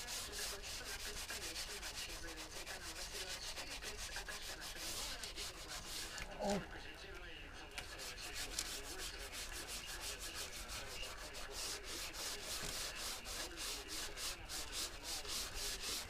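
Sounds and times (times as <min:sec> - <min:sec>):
sandpaper rubbing on metal panel: 0:00.0 - 0:06.2, 0:07.8 - 0:16.0.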